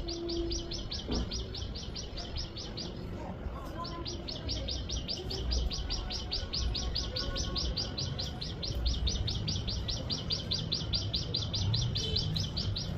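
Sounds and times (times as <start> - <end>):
bird chirping rapidly: 0.0 - 3.1, 3.7 - 12.9.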